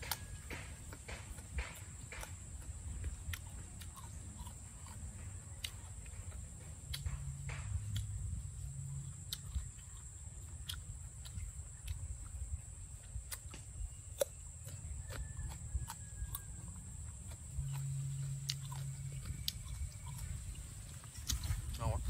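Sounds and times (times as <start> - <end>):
low hum: 0.0 - 22.0
person chewing crunchy fruit: 0.0 - 22.0.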